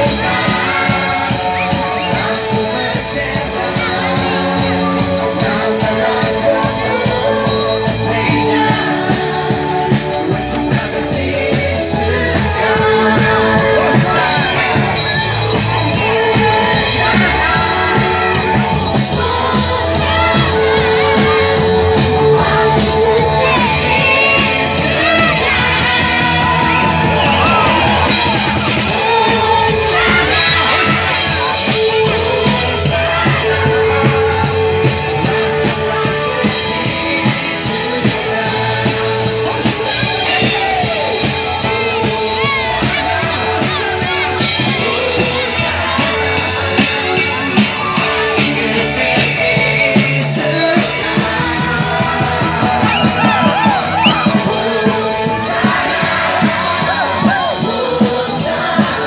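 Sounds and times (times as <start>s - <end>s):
drum kit: 0.0s - 59.0s
electric guitars: 0.0s - 59.0s
singers on microphones: 0.0s - 59.0s.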